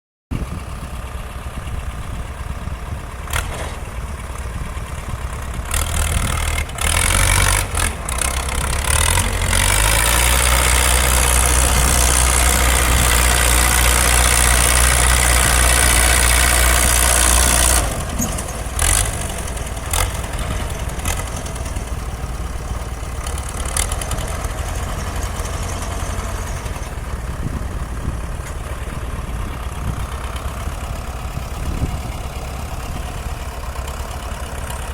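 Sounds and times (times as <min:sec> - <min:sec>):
tractor diesel engine revving: 0:00.4 - 0:34.9.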